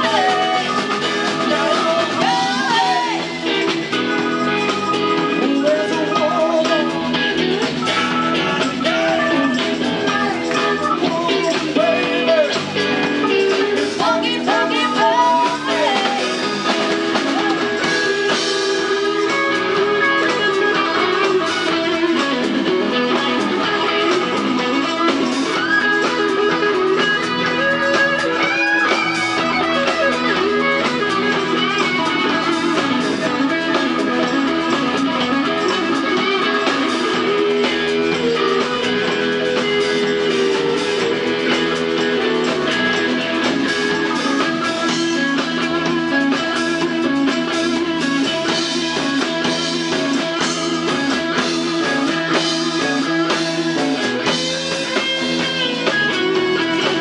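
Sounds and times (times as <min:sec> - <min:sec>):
electric guitar bending notes: 0:00.0 - 0:57.0
rhythm and blues band playing: 0:00.0 - 0:57.0.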